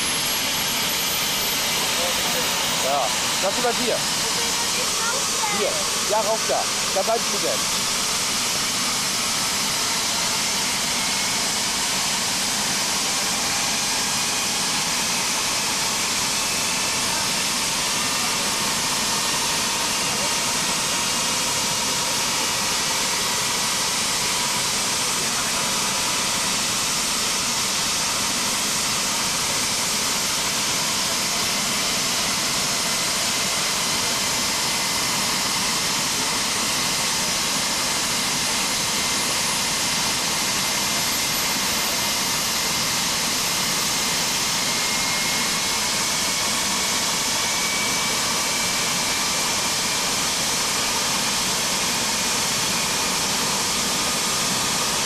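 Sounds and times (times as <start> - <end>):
helicopter engines and rotor running: 0.0 - 55.0.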